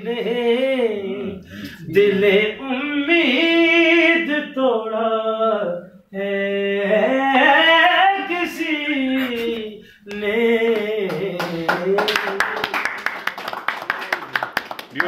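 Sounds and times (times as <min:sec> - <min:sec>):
man singing unaccompanied: 0:00.0 - 0:12.6.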